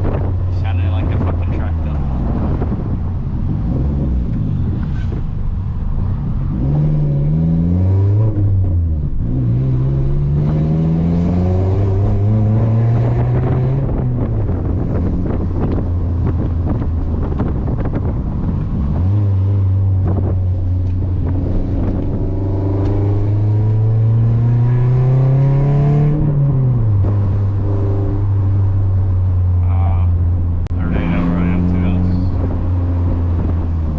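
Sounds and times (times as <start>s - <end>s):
car engine accelerating through gears: 0.0s - 33.9s.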